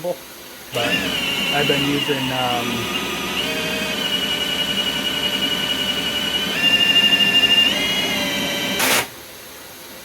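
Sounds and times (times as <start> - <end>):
drill motor whining: 0.7 - 9.1
short burst of noise: 0.7 - 9.2.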